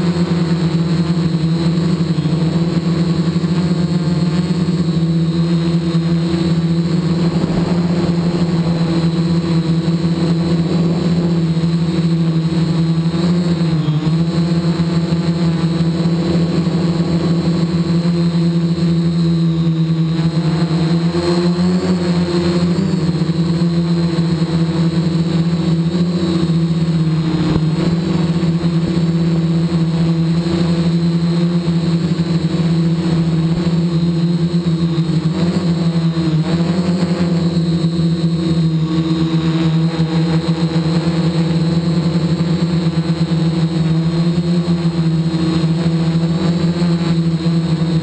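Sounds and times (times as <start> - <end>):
quadcopter motors buzzing: 0.0 - 48.0.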